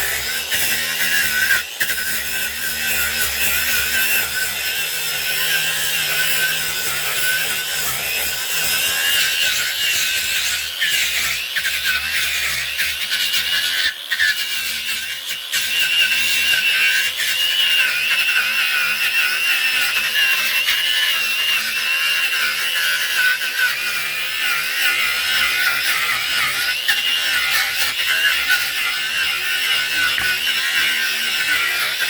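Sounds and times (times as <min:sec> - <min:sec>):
electric sander whining: 0:00.0 - 0:32.0.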